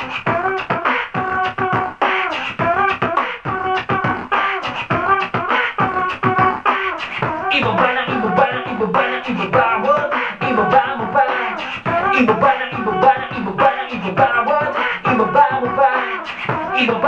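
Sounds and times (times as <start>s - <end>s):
beatbox mouth percussion: 0.0s - 17.0s.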